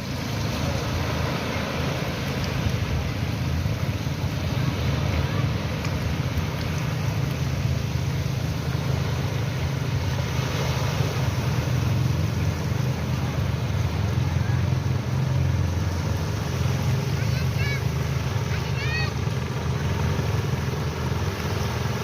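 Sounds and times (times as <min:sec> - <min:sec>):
constant low rumble: 0:00.0 - 0:22.0
sea waves rushing: 0:00.0 - 0:22.0.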